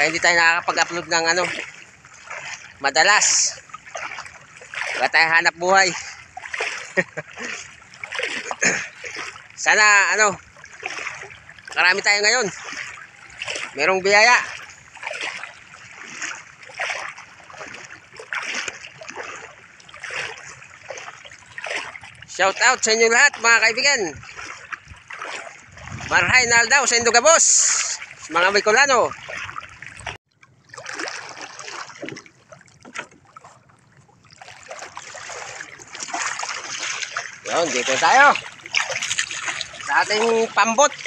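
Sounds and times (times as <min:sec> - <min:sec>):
wading through shallow water: 0:00.0 - 0:41.0.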